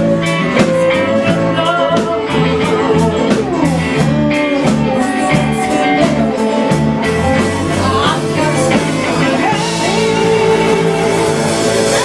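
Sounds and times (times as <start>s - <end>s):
electric guitar bent notes: 0.0s - 12.0s
live soul band playing: 0.0s - 12.0s
steady drum beat: 0.0s - 12.0s.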